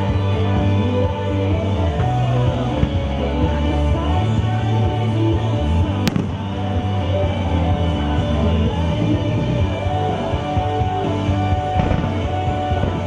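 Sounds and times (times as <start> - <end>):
rock music over loudspeakers: 0.0 - 13.0.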